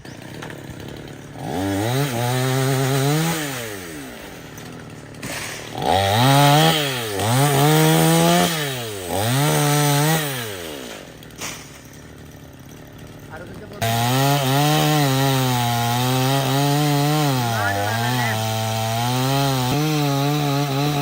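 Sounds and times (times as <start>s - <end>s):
chainsaw revving: 0.0s - 21.0s.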